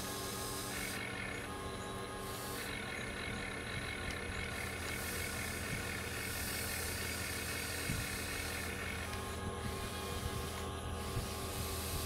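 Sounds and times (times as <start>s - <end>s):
electric motors whirring: 0.0s - 12.0s.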